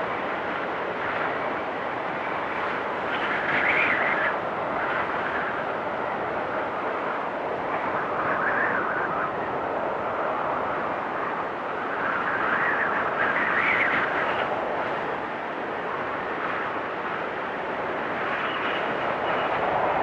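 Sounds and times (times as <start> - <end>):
strong storm wind: 0.0 - 20.0.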